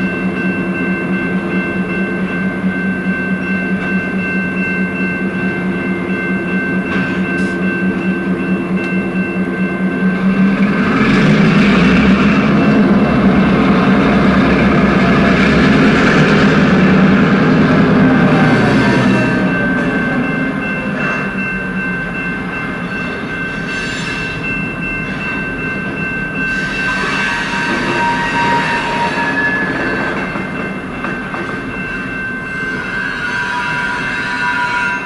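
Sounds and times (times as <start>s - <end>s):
train engine drone: 0.0s - 35.0s.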